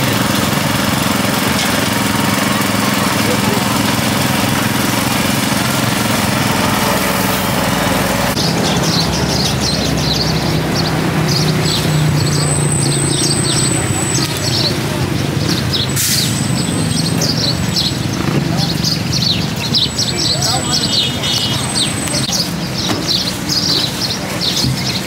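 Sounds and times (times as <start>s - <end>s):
small engine running: 0.0s - 22.5s.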